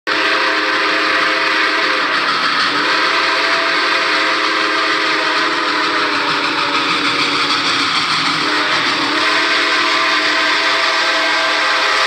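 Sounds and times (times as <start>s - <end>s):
steam hissing: 0.1s - 12.0s
steam locomotive chime whistle: 0.1s - 12.0s.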